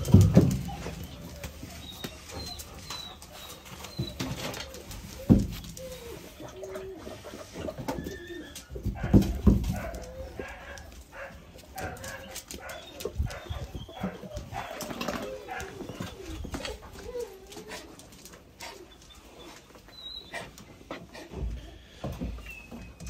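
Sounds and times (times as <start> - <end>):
puppies whining and grunting: 0.0 - 23.0.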